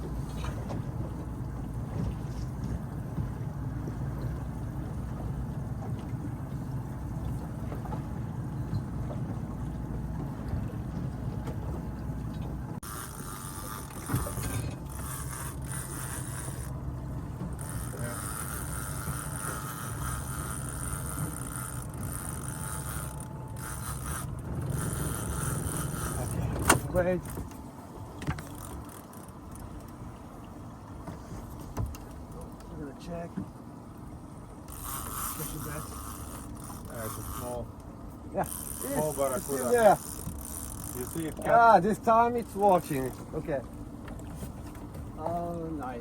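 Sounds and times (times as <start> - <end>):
boat engine running: 0.0 - 46.0
water noise: 0.0 - 46.0.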